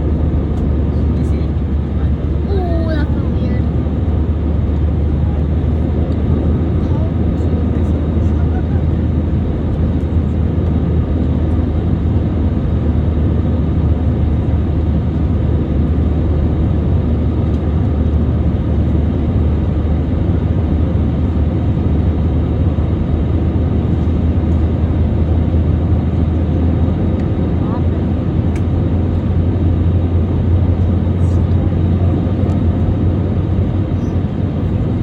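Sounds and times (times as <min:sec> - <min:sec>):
jet airliner cabin noise: 0:00.0 - 0:35.0.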